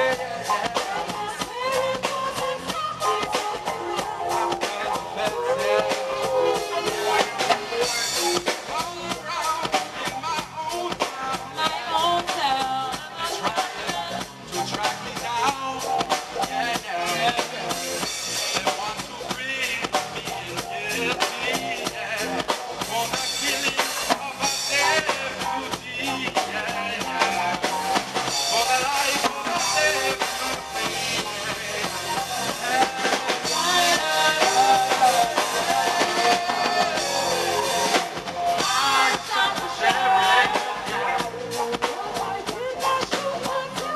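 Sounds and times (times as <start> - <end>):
man singing into a microphone: 0.0 - 43.9
reggae band playing: 0.0 - 43.9.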